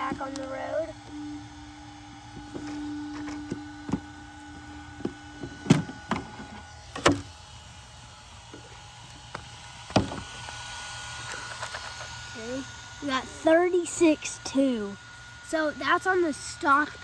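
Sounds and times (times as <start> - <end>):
electric whine of cooling fan: 0.0 - 17.0.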